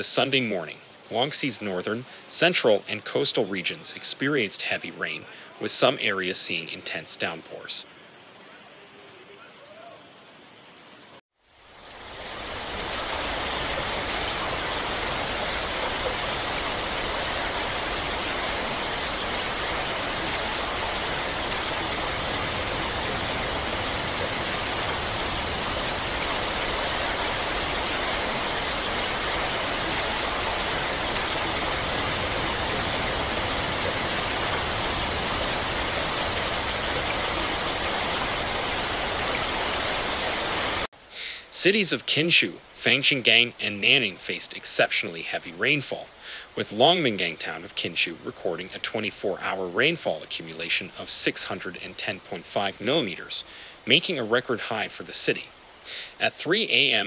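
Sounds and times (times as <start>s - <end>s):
heavy rain: 0.0s - 57.0s
rushing floodwater: 0.0s - 57.0s.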